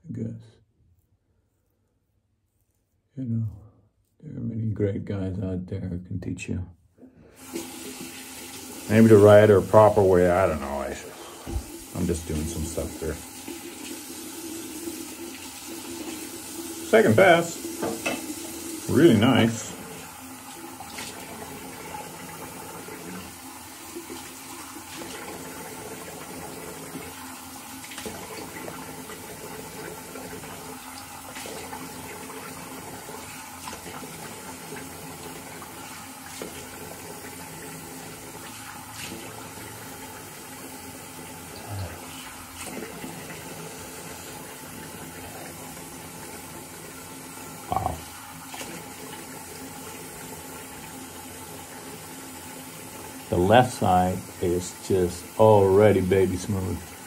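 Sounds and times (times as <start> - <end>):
tap water running into sink: 7.4 - 57.0.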